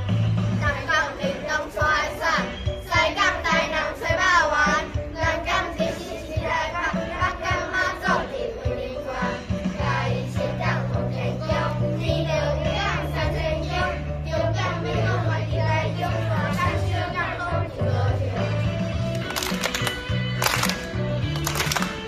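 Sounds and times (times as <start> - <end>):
backing music track: 0.0 - 22.0
children singing together: 0.6 - 18.8.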